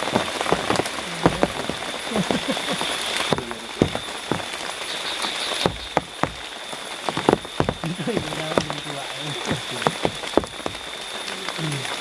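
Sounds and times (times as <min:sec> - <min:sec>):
heavy rain falling: 0:00.0 - 0:12.0
raindrops tapping: 0:00.0 - 0:12.0.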